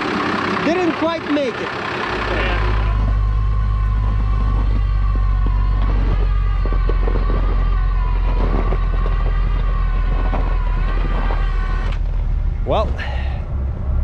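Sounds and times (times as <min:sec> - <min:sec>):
vehicle engine running: 0:00.0 - 0:14.0
high-pitched whine: 0:02.0 - 0:14.0.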